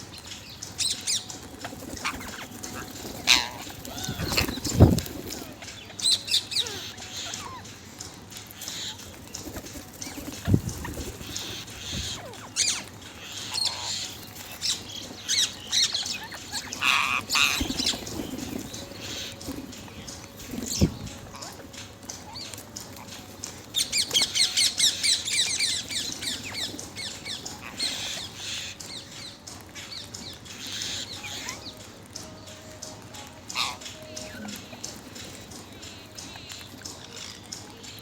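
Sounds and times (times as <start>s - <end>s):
parrot squawking and chirping: 0.4s - 7.9s, 8.6s - 31.8s, 33.3s - 36.6s.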